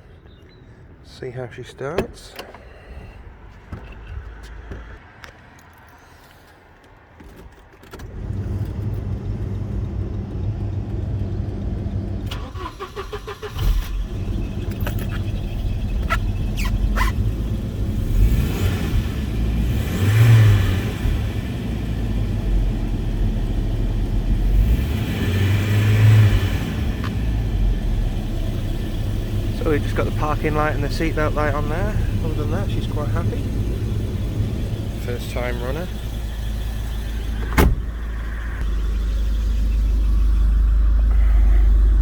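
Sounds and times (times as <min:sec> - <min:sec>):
car engine starting and revving: 0:08.0 - 0:42.0.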